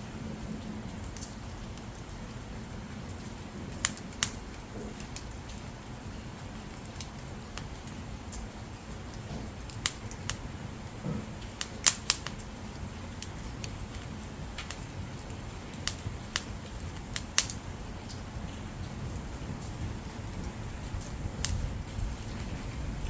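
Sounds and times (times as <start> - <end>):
firewood crackling and popping: 0.0 - 23.0
flames rushing: 0.0 - 23.0.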